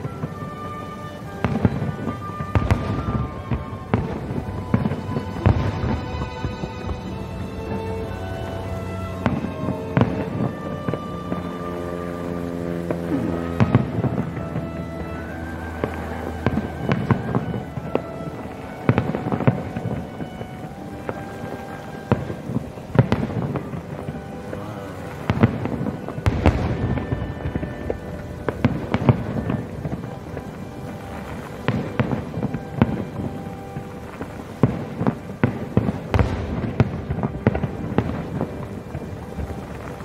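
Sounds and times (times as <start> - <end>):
fireworks bursting: 0.0 - 40.0
rumbling echo: 0.0 - 40.0.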